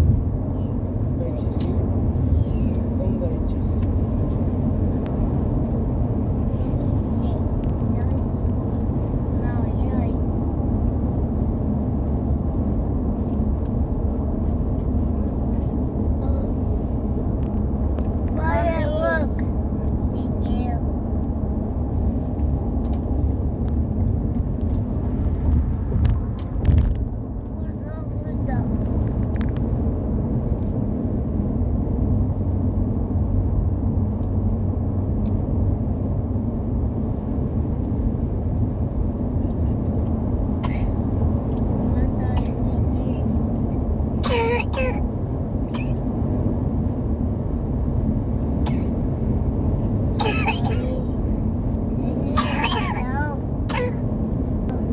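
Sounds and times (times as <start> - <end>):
truck engine and road rumble: 0.0 - 54.9.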